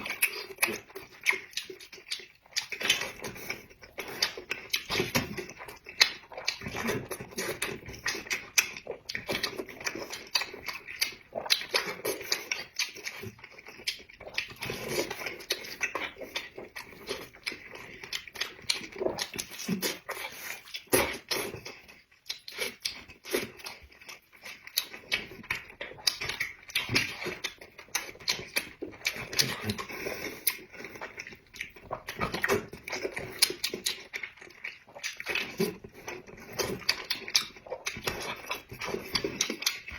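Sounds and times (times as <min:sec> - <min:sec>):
person chewing and smacking: 0:00.0 - 0:39.9.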